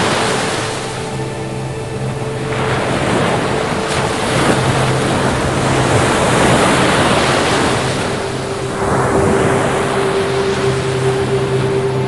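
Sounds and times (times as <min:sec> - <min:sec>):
faint low tones: 0:00.0 - 0:12.0
ocean waves breaking: 0:00.0 - 0:12.0.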